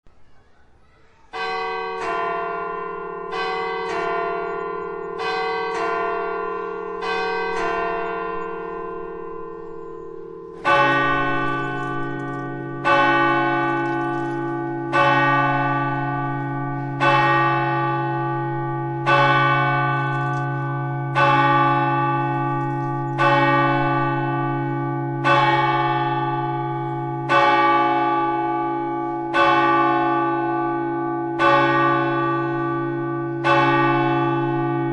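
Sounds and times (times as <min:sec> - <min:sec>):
deep church bell striking: 0:01.3 - 0:34.9.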